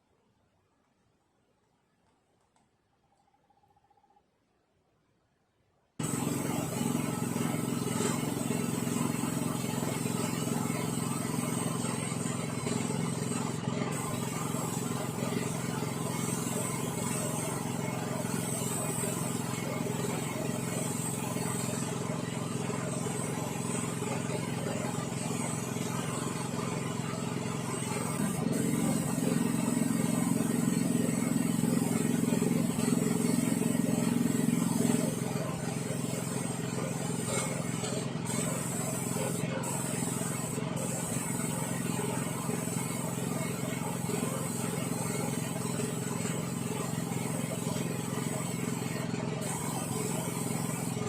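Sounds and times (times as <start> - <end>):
snowblower engine running: 6.0 - 51.0.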